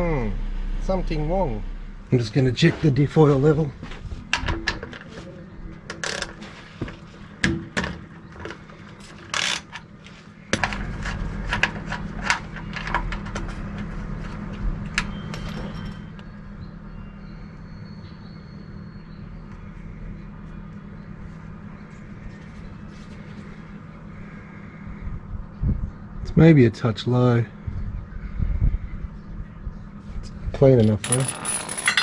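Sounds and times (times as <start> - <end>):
steady low rumble: 0.0 - 5.9, 10.3 - 32.0.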